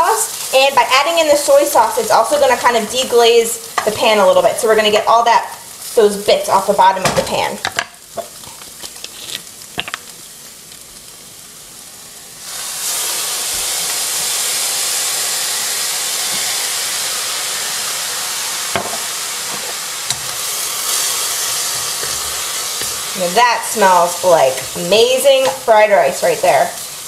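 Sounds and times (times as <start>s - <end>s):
sauce sizzling in hot skillet: 0.0s - 27.0s.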